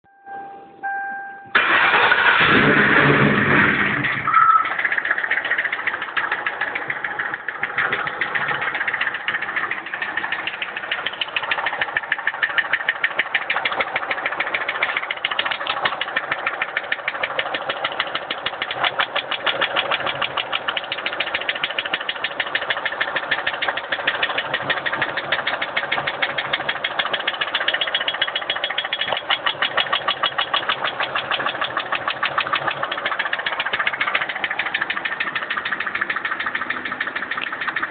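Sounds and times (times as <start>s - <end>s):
car engine cranking and starting: 0.8s - 37.9s
engine knocking rapidly: 4.2s - 37.9s.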